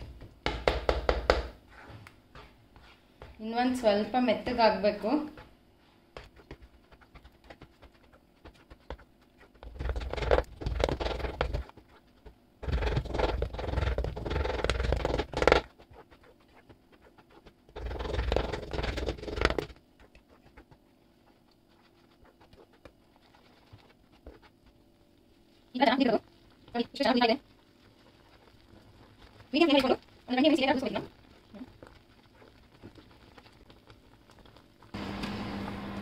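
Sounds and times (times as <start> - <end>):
spatula mashing strawberries in pan: 0.0 - 35.9.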